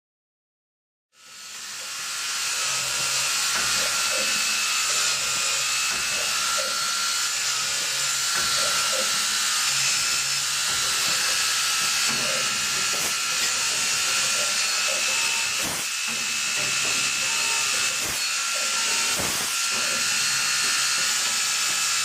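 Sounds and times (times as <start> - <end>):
high-pitched drill spindle whir: 1.2 - 22.0.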